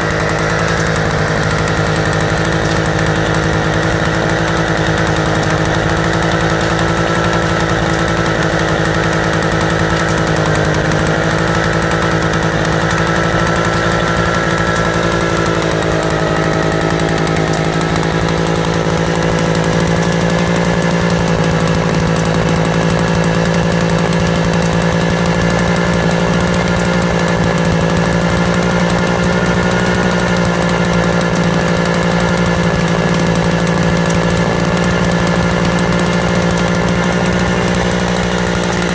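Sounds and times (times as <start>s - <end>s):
stationary engine running: 0.0s - 38.9s.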